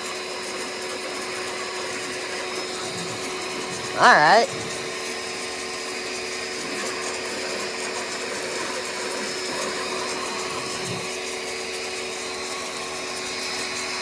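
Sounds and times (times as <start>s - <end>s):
pressure washer motor humming: 0.0s - 14.0s.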